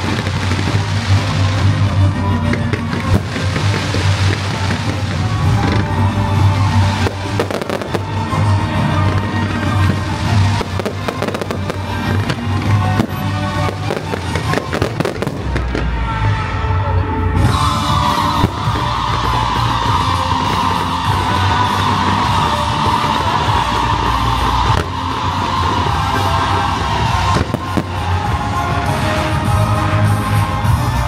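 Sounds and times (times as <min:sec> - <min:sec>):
firecrackers crackling and banging: 0:00.0 - 0:16.0, 0:17.4 - 0:30.1
loud music with bass: 0:00.0 - 0:31.0.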